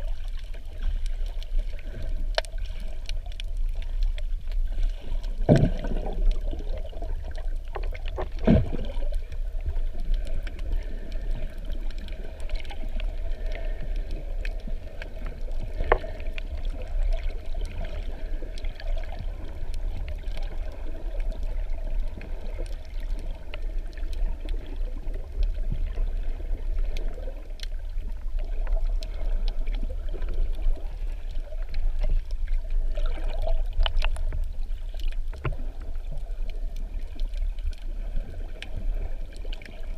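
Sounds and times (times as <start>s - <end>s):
underwater rumble of moving water: 0.0s - 39.9s
faint clicks: 0.1s - 32.8s, 33.6s - 39.9s.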